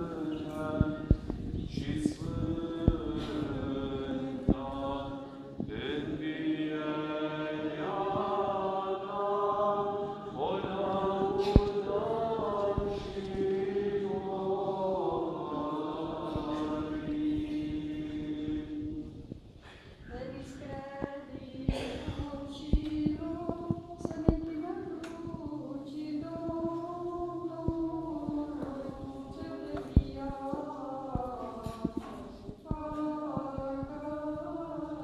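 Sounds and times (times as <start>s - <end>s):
voices chanting: 0.0s - 19.3s, 20.1s - 35.0s.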